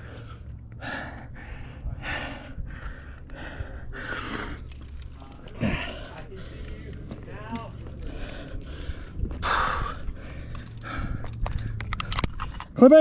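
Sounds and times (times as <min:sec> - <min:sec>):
person breathing hard: 0:00.0 - 0:12.8.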